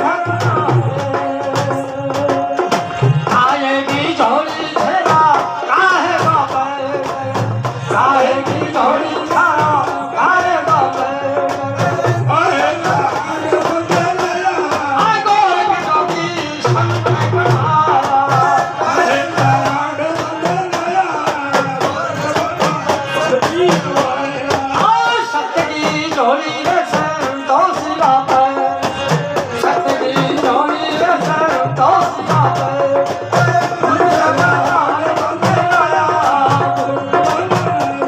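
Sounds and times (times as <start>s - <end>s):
hand drum: 0.0s - 38.0s
man singing folk song: 0.0s - 38.0s.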